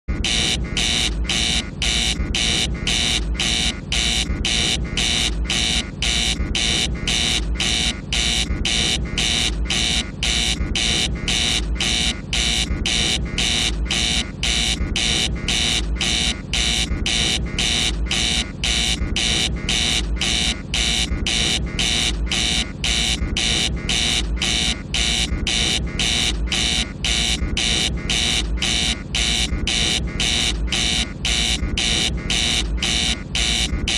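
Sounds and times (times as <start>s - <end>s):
pulsing buzzing alarm: 0.1s - 33.9s.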